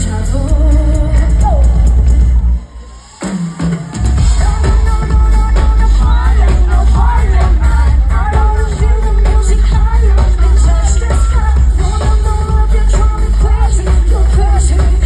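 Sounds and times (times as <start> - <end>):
woman singing: 0.0 - 2.7, 4.2 - 15.0
live pop band: 0.0 - 15.0.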